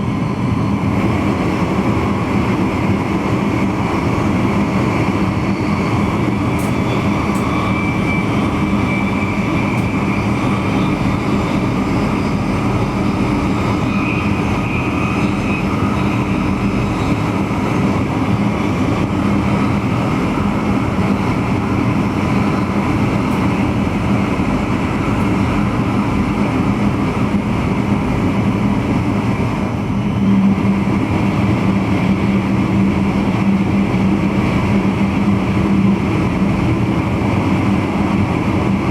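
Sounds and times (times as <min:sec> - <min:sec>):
train rumble: 0:00.0 - 0:38.9.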